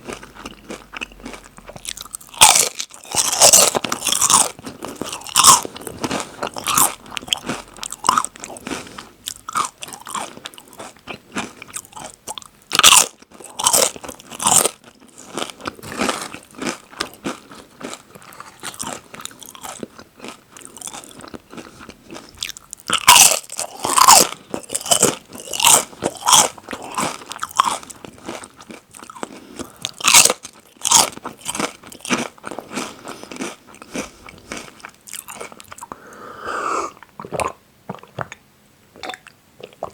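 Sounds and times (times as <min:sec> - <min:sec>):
chips crunching bites: 0:00.0 - 0:35.9
chewing crunches: 0:00.0 - 0:36.1.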